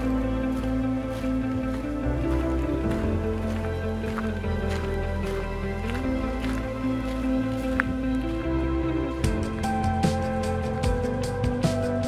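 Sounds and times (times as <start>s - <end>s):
slow sustained chords: 0.0s - 12.0s.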